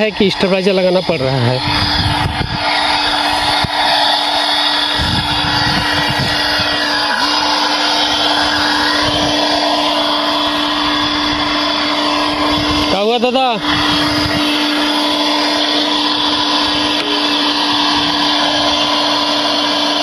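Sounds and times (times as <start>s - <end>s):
pump motor humming and whirring: 0.0s - 20.0s.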